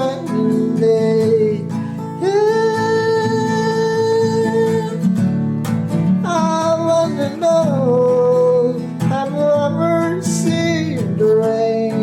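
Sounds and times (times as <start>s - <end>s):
person singing: 0.0s - 5.2s, 6.2s - 12.0s
acoustic guitar strumming: 0.0s - 12.0s.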